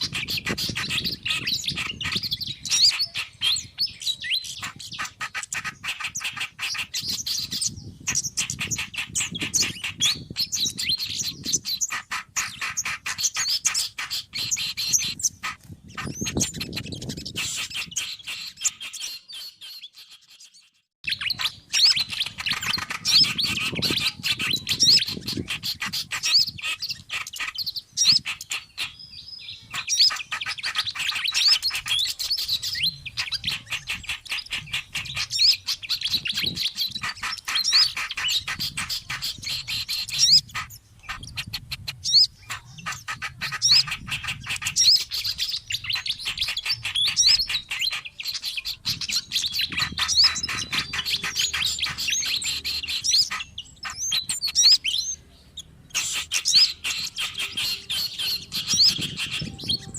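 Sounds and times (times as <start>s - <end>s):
songbirds chattering chirps: 0.0s - 59.9s.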